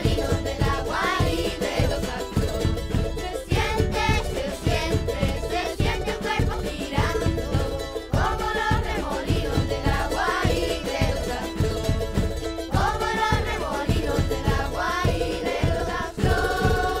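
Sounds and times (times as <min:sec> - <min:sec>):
song with singing: 0:00.0 - 0:17.0
steady percussive beat: 0:00.0 - 0:17.0.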